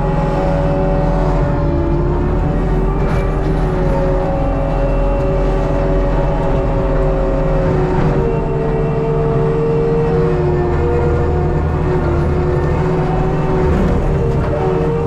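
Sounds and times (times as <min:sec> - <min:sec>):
diesel engine working hard: 0:00.0 - 0:15.0
mulcher head whining and grinding: 0:00.0 - 0:15.0.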